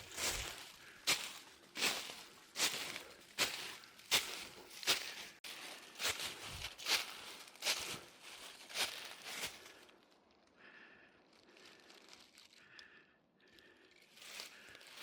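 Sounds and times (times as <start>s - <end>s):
footsteps crunching on trail: 0.0s - 10.3s, 11.3s - 12.8s, 13.6s - 15.0s.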